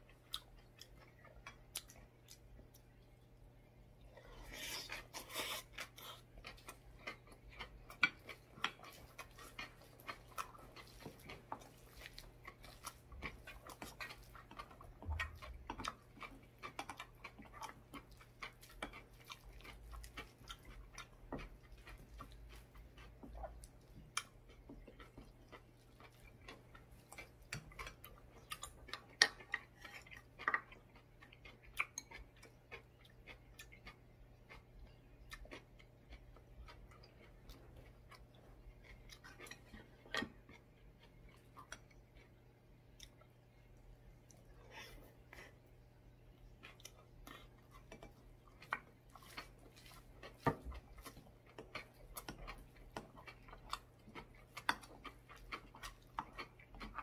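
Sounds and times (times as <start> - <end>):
soft chewing with mouth clicks: 0.0 - 57.0.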